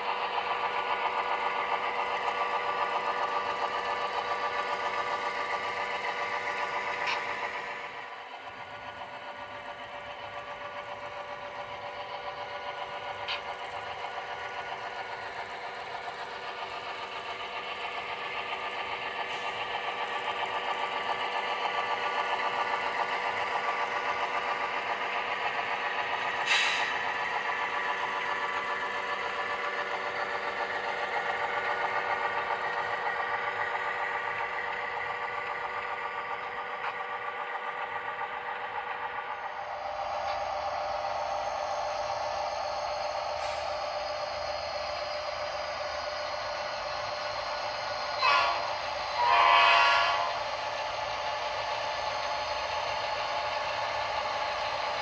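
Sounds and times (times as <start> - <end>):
model train motor whirring: 0.0 - 55.0
wheels clicking on track: 0.0 - 55.0.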